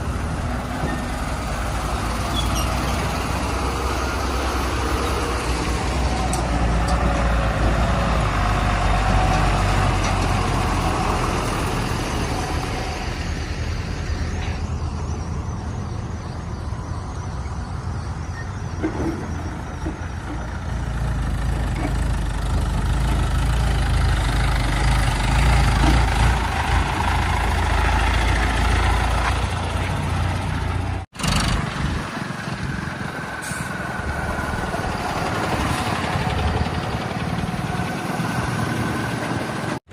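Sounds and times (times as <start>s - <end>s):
diesel machinery engine rumbling: 0.0s - 39.9s.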